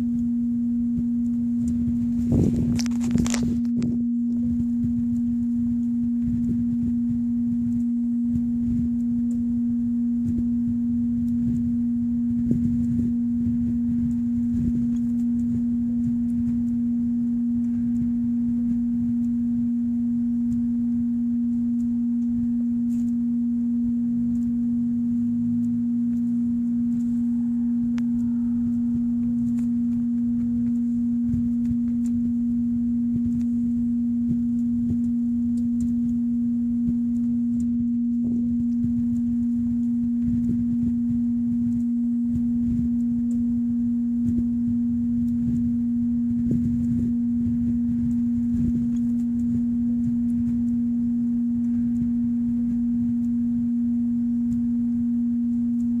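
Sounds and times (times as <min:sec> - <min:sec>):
faint fluttering rumble: 0:00.0 - 0:56.0
steady low-pitched hum: 0:00.0 - 0:56.0.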